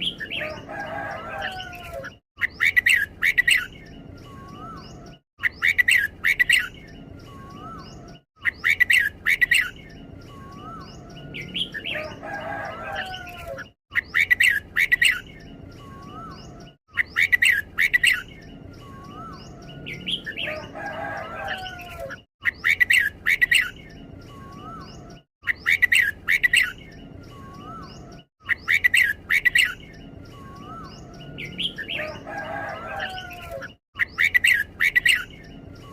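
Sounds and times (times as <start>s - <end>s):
bird singing bright song: 0.0s - 35.9s
lower bird warbling: 0.0s - 35.9s.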